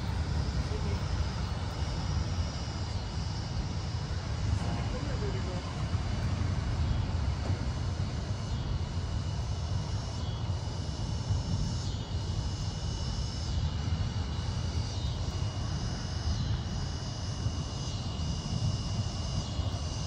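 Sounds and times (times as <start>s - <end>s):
high-pitched insect drone: 0.0s - 20.0s
low outdoor rumble: 0.0s - 20.0s.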